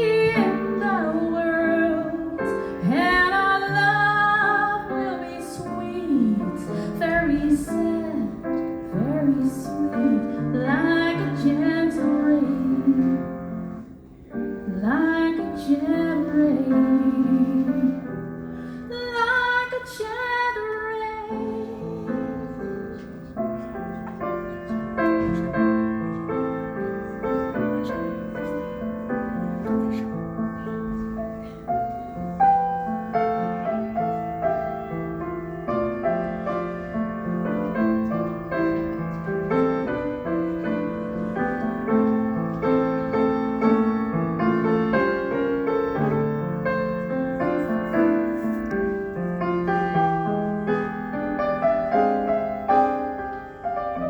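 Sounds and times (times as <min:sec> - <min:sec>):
slow piano ballad: 0:00.0 - 0:54.0.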